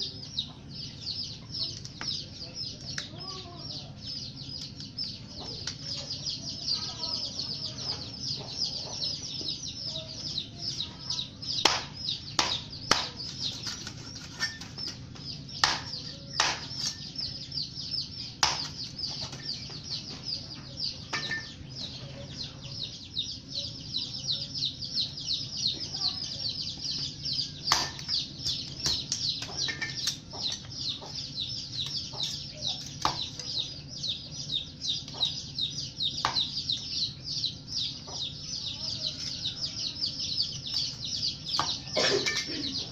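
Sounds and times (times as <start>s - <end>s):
rapid high-pitched chirping: 0.0s - 42.9s.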